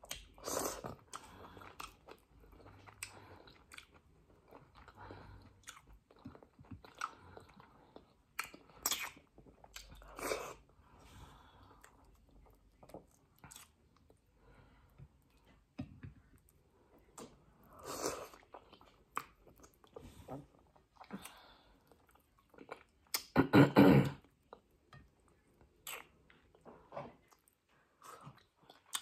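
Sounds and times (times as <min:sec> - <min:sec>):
person chewing with wet smacks: 0:00.0 - 0:10.8, 0:11.6 - 0:23.4, 0:24.2 - 0:29.0.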